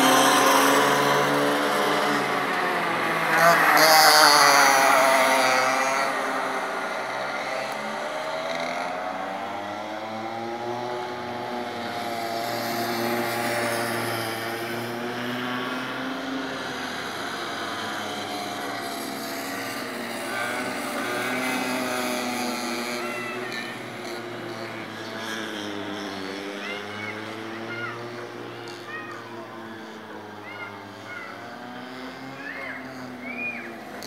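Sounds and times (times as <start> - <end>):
racing kart engines: 0.0 - 34.0.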